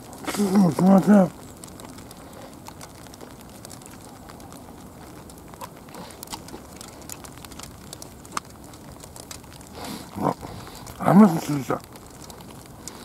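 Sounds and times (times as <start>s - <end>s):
faint clicks and rustles: 0.0s - 13.0s
low steady rumble: 0.0s - 13.0s.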